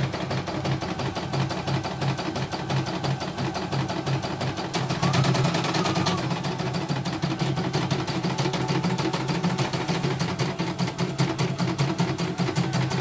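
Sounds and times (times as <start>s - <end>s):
embroidery machine stitch clatter: 0.0s - 13.0s
motor hum: 0.0s - 13.0s.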